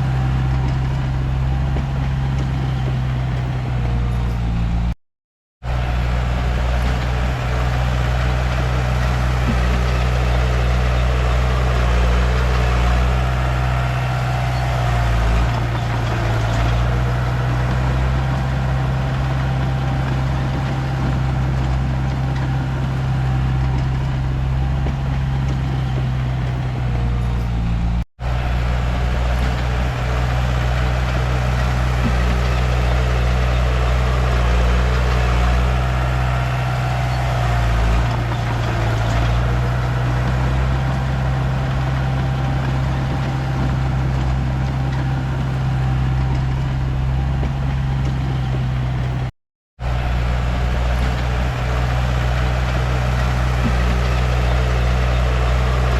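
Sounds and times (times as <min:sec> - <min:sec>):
bulldozer diesel engine running: 0:00.0 - 0:05.0, 0:05.6 - 0:55.9.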